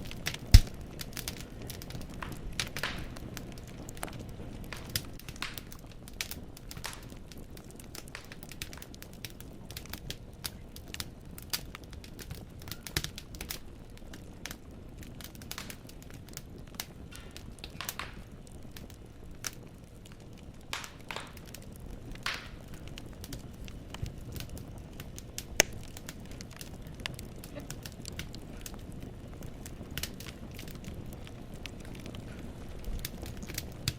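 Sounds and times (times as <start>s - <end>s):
burning logs popping: 0.0s - 33.9s
low rumble of flames: 0.0s - 33.9s
wood fire crackling: 0.0s - 33.9s.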